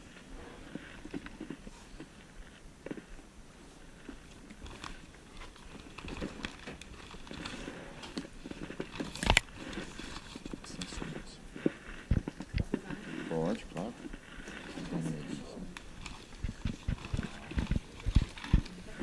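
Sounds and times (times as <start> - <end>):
rustling of clothes and bags: 0.0 - 19.0.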